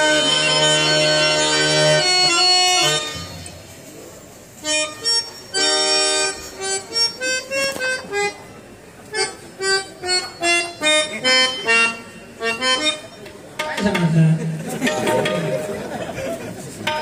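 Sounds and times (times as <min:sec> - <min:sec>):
harmonium melody: 0:00.0 - 0:15.7.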